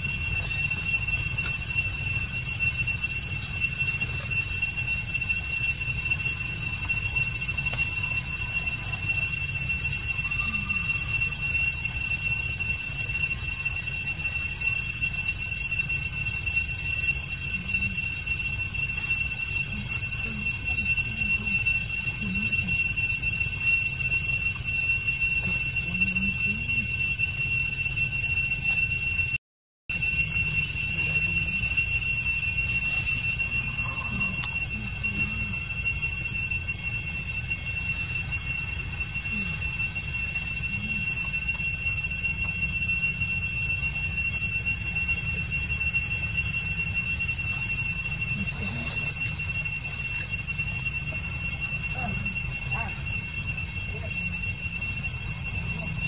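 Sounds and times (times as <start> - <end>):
high-pitched whine: 0.0 - 56.0.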